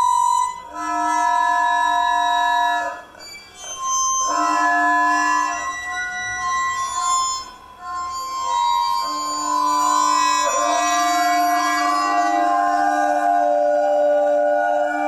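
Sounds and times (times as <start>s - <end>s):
ringing drone tones: 0.0s - 15.0s.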